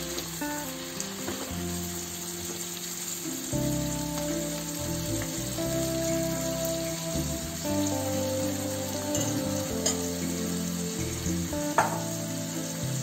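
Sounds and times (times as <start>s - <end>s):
music of held notes: 0.0s - 13.0s
rice sizzling in a wok: 0.0s - 13.0s.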